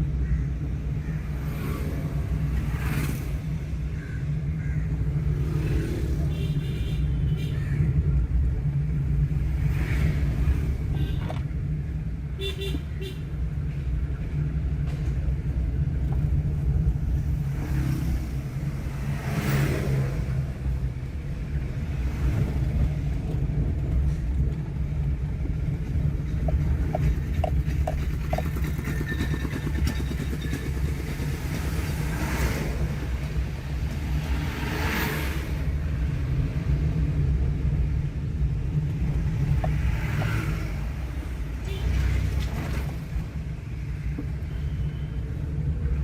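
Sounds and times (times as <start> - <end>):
passing traffic: 0.0 - 46.0
road and engine rumble in car: 0.0 - 46.0.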